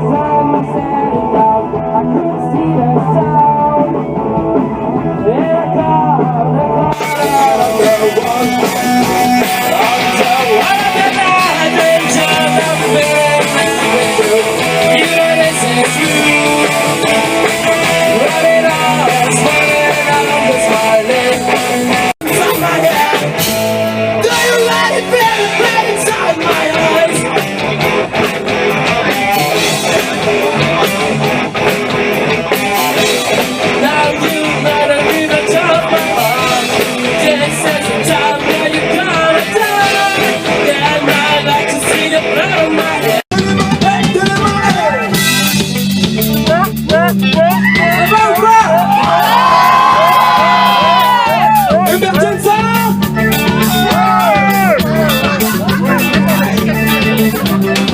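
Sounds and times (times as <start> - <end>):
electric guitar: 0.0 - 57.9
person singing: 0.0 - 57.9
rock band playing live: 0.0 - 57.9.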